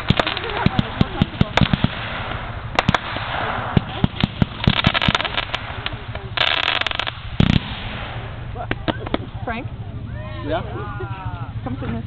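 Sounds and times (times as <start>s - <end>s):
fireworks popping and crackling: 0.0s - 9.8s.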